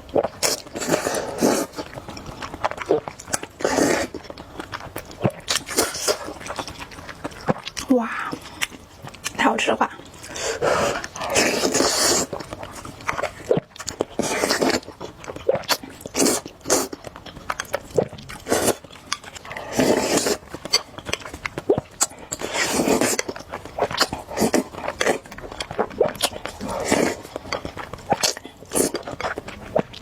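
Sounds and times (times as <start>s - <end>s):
chewing food: 0.0s - 30.0s.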